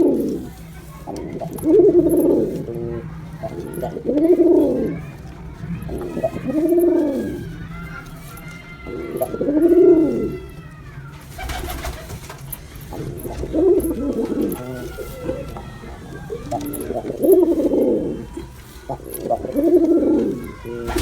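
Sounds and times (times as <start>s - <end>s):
pigeon cooing: 0.0s - 21.0s
rustling: 0.0s - 21.0s.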